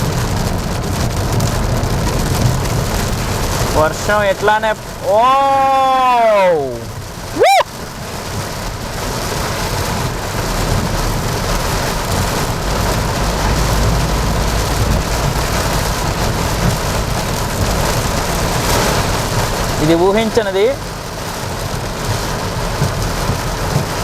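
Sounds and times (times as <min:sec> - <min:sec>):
heavy rain on a car: 0:00.0 - 0:24.0
low road rumble: 0:00.0 - 0:24.0.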